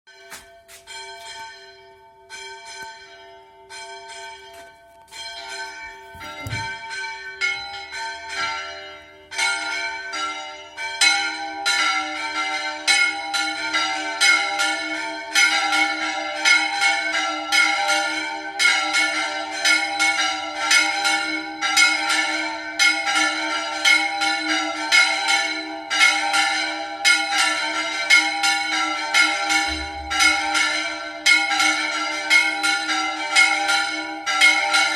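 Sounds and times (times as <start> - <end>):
church bells ringing: 0.1 - 34.9.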